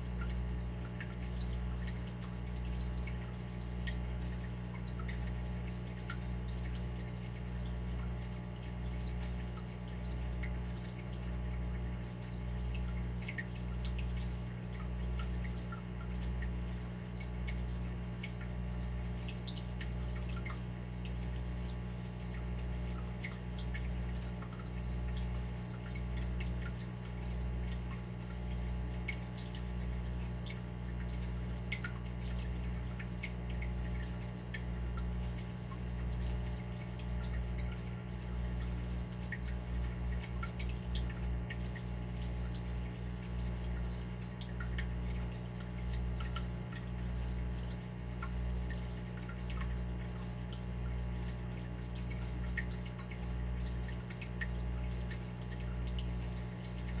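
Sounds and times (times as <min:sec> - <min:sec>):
water dripping and trickling: 0:00.0 - 0:57.0.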